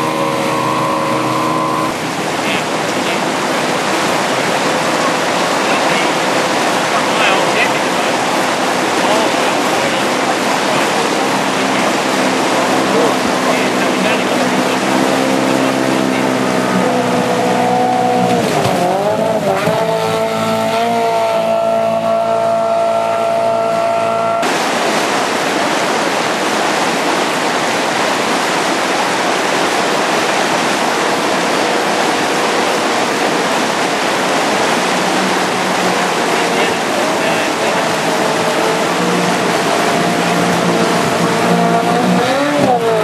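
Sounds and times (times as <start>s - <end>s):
rushing spray: 0.0s - 19.2s, 23.9s - 43.0s
outboard motor running hard: 0.0s - 43.0s.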